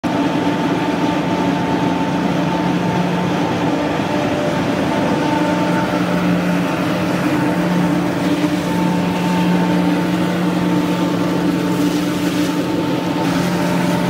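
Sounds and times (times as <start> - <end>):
machine din with low hum: 0.0 - 14.0.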